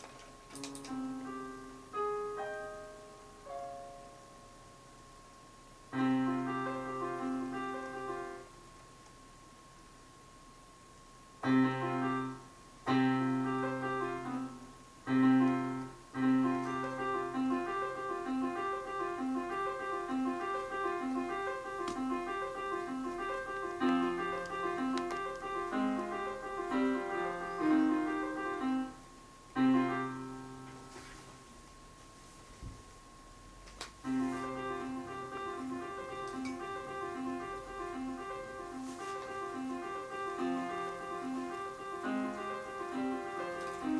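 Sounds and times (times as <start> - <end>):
slow piano-like keyboard music: 0.0 - 10.0, 10.9 - 43.9
faint steady high tone: 0.0 - 10.1, 10.7 - 33.4, 34.0 - 43.9.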